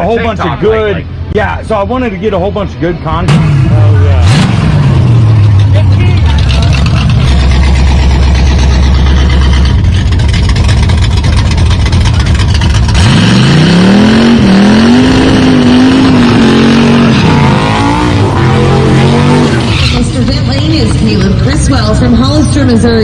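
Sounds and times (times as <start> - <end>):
car engine revving: 1.0 - 23.0.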